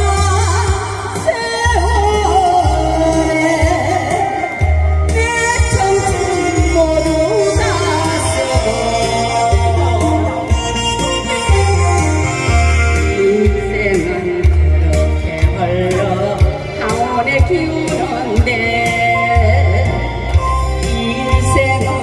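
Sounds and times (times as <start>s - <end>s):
instrumental accompaniment: 0.0s - 22.0s
person singing: 0.0s - 22.0s.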